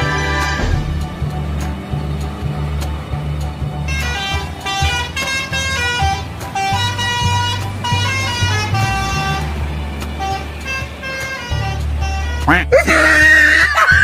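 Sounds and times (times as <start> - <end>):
multi-tone air horn melody: 0.0 - 1.9, 3.8 - 13.2
low steady rumble: 0.0 - 12.8.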